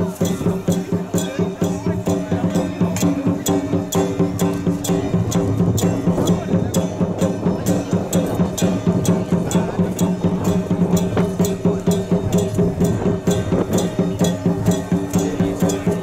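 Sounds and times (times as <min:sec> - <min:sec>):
wood-block beat: 0:00.0 - 0:16.0.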